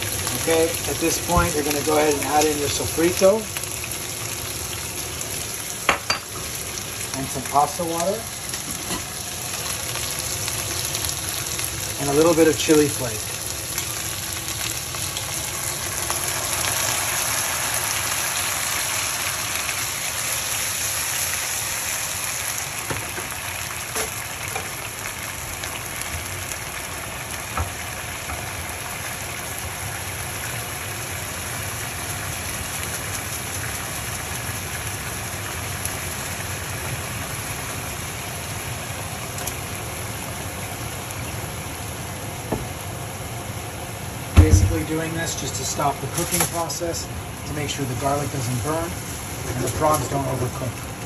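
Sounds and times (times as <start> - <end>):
water sizzling in a hot pan: 0.0 - 51.0.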